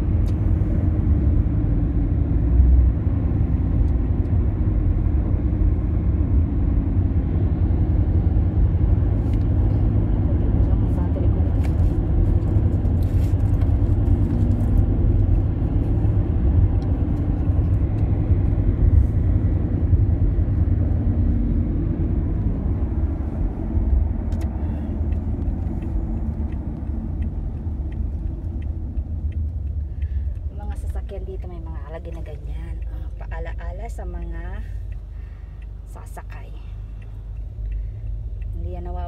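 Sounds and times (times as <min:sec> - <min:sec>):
road and engine rumble in car: 0:00.0 - 0:39.0.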